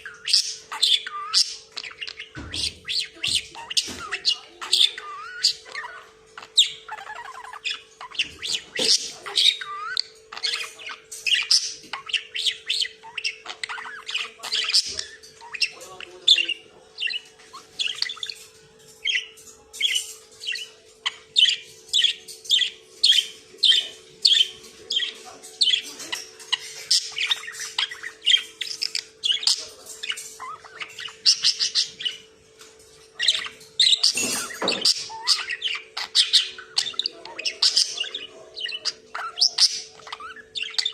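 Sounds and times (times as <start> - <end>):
budgerigar chattering: 0.0 - 18.4, 19.9 - 32.2, 33.2 - 40.9.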